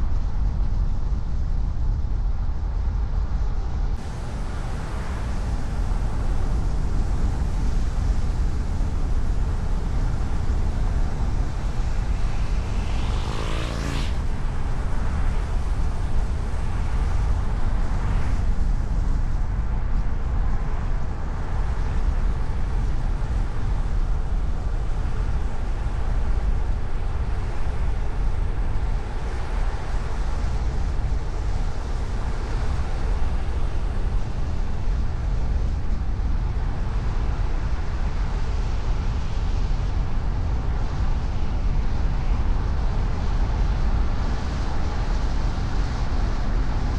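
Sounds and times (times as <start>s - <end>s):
car driving road noise: 0.0s - 46.9s.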